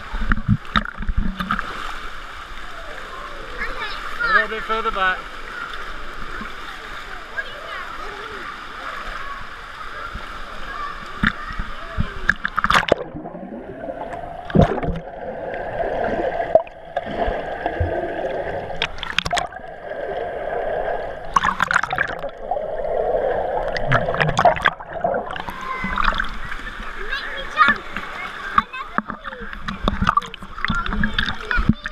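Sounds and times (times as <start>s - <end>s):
water splashing: 0.0s - 31.9s.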